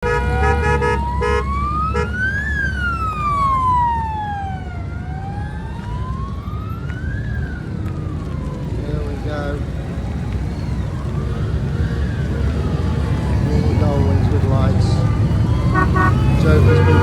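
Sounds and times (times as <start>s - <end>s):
low traffic rumble: 0.0s - 17.0s
siren wailing: 0.0s - 17.0s.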